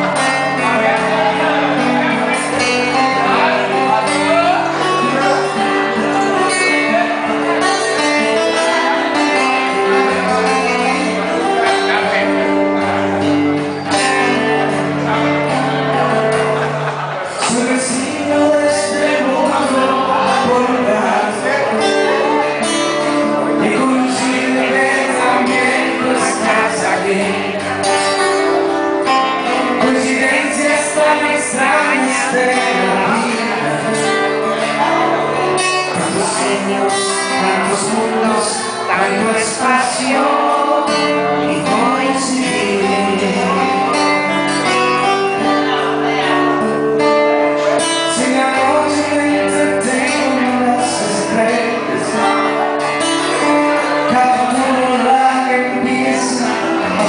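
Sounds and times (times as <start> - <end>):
classical guitar playing: 0.0 - 57.0
man singing into a microphone: 0.0 - 57.0.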